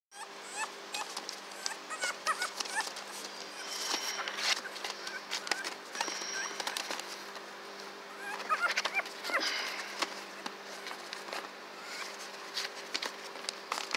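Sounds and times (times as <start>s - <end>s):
puppies squeaking and whimpering: 0.1s - 7.2s, 8.1s - 12.4s
paws scratching newspaper: 0.5s - 13.9s.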